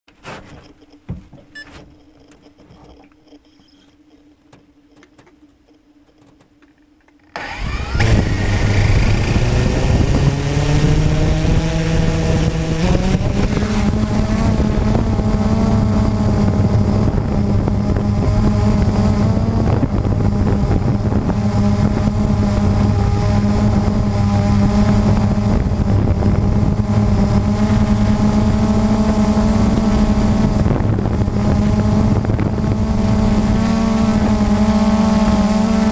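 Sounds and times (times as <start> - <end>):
drone motors buzzing: 0.4 - 35.9.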